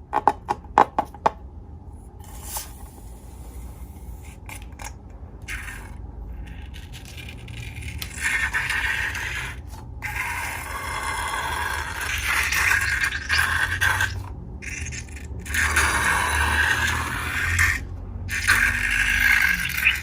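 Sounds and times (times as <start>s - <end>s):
scraping and rubbing: 2.1s - 20.0s.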